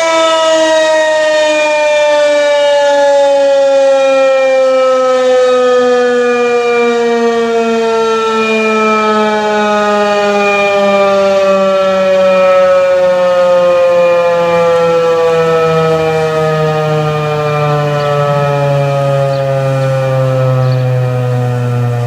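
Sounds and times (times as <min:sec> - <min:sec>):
warning siren falling pitch: 0:00.0 - 0:22.0.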